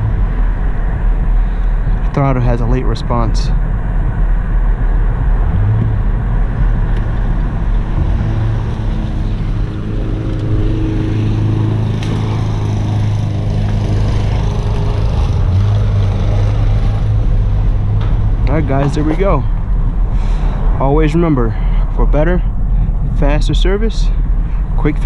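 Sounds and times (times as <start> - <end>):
low engine hum: 0.0 - 25.0
road and tyre noise: 0.0 - 25.0.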